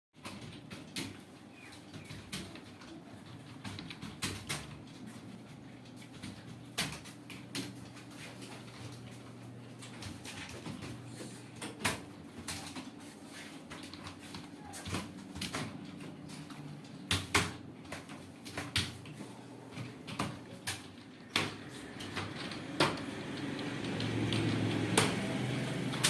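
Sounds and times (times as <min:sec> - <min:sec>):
keyboard keys clicking: 0:00.2 - 0:13.0, 0:13.7 - 0:26.0.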